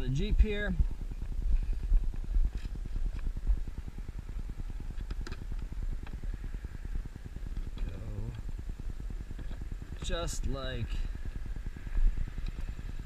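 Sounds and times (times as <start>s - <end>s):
machine pulsing hum: 0.0s - 13.0s.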